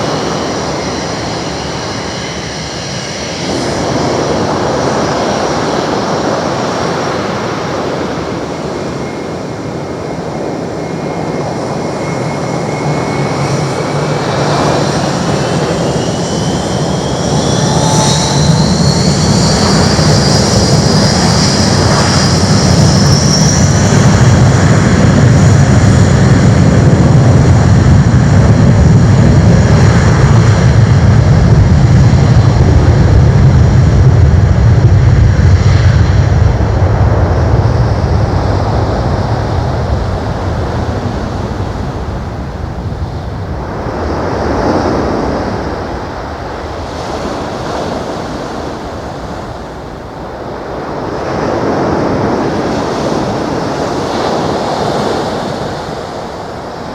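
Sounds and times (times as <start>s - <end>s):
jet engines spooling up: 0.0s - 56.9s.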